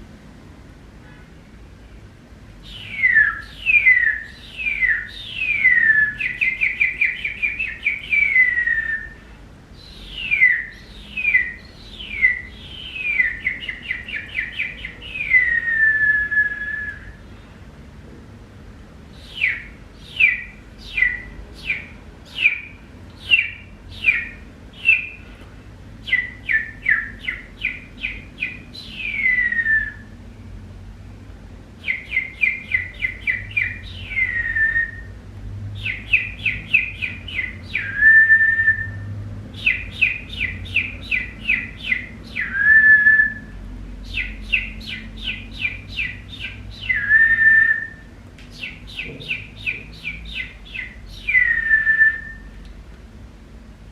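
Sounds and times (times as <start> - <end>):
bird-like whistled song: 2.6 - 9.2, 9.8 - 17.2, 19.2 - 25.3, 26.0 - 30.2, 31.8 - 35.2, 35.8 - 52.6.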